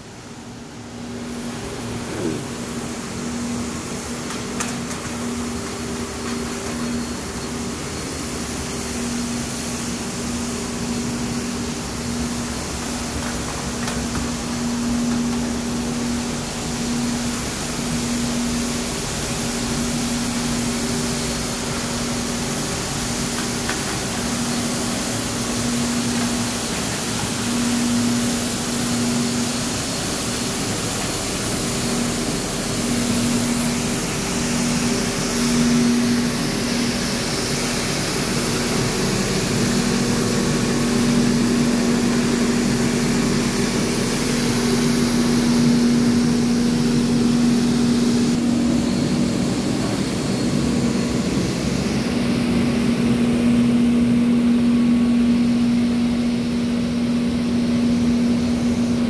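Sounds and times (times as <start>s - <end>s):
street sweeper engine hum: 0.0s - 59.0s.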